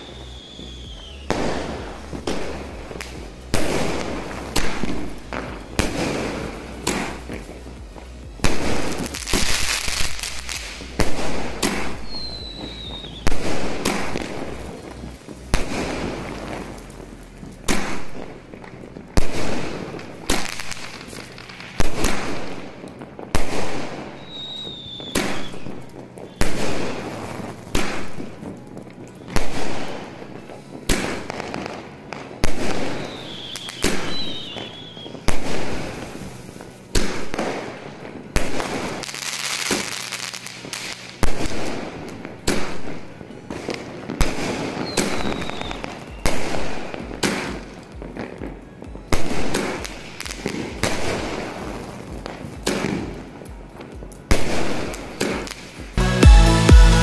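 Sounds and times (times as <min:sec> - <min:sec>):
firework bangs with crackle: 0:00.0 - 0:57.0.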